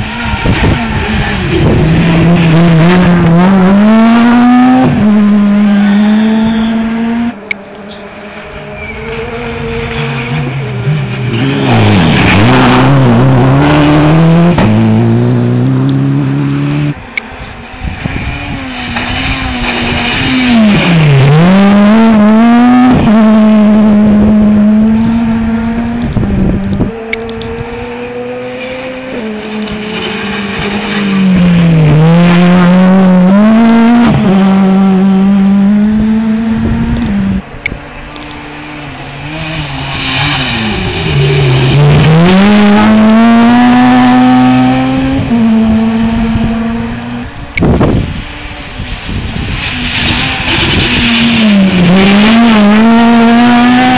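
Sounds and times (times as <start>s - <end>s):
rally car engines revving past: 0.0s - 53.9s.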